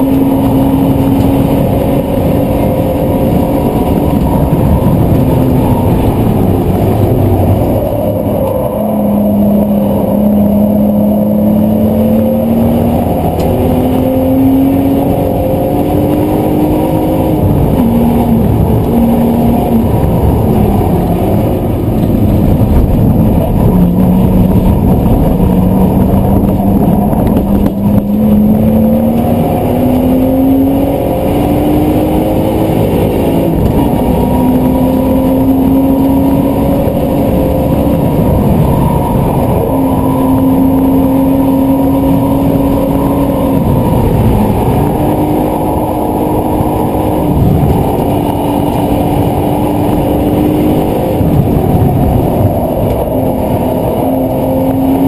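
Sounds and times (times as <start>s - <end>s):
car engine accelerating: 0.0s - 55.0s
wind noise: 0.0s - 55.0s.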